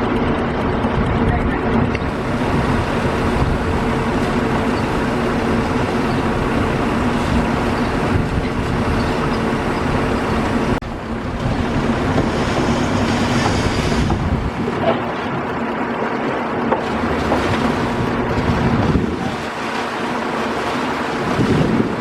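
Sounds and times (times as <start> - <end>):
strong wind buffeting microphone: 0.7 - 22.0.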